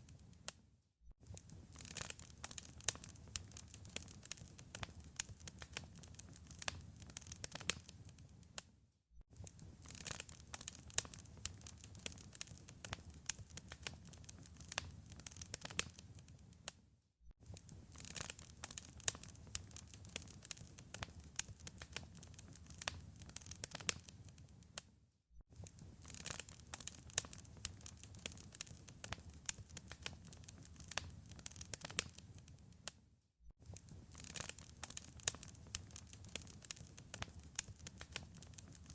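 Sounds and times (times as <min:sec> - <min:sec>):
wood fire crackling: 0:01.2 - 0:08.6, 0:09.4 - 0:16.8, 0:17.5 - 0:24.8, 0:25.6 - 0:32.9, 0:33.6 - 0:38.9.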